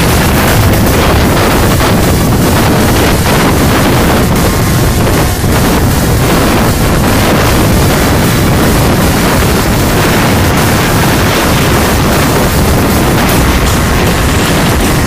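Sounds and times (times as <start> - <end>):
scooter engines: 0.0 - 15.0
wind buffeting microphone: 0.0 - 15.0.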